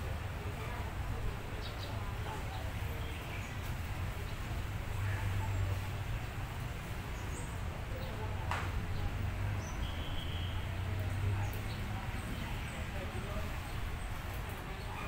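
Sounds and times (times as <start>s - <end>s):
faint crowd chatter: 0.0s - 15.0s.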